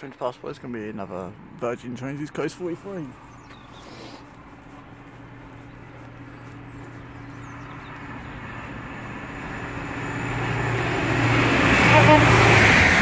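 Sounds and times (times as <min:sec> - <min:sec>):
diesel train engine approaching: 0:00.0 - 0:13.0.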